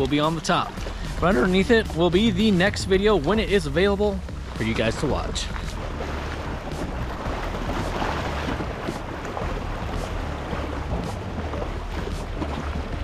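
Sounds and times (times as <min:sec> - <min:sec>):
waves lapping: 0:00.0 - 0:13.0
steady low rumble: 0:00.7 - 0:13.0.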